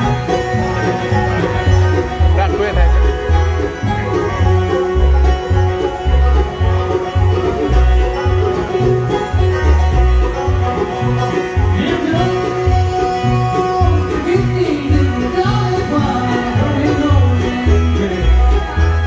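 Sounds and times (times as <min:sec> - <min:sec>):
banjo picking: 0:00.0 - 0:19.0
bluegrass band playing: 0:00.0 - 0:19.0
upright bass notes: 0:00.0 - 0:19.0.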